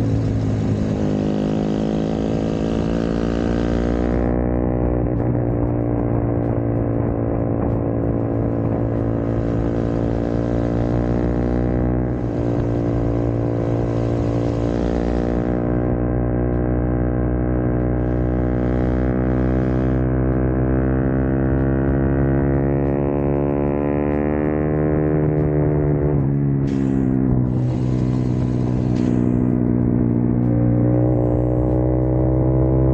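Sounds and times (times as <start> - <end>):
motorcycle engine droning: 0.0 - 32.9.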